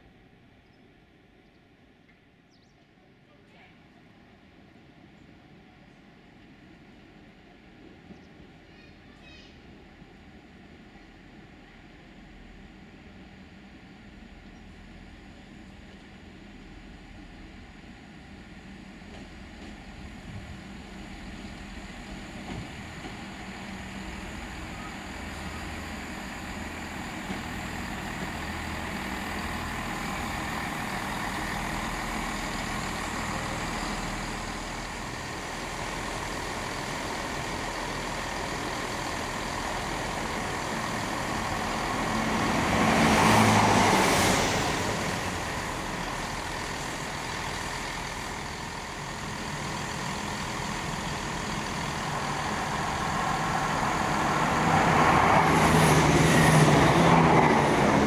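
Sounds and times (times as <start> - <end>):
diesel train engine rumble: 0.0 - 58.0
train approaching: 3.9 - 58.0.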